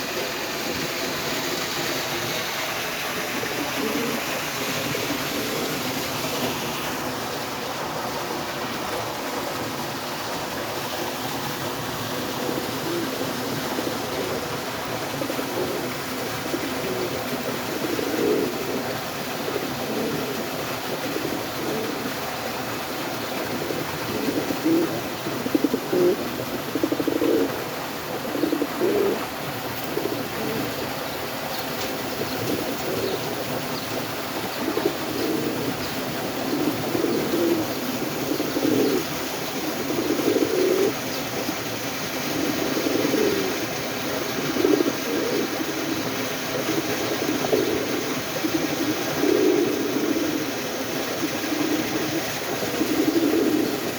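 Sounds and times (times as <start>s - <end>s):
pigeons cooing: 0.0s - 53.9s
steady background hiss: 0.0s - 53.9s.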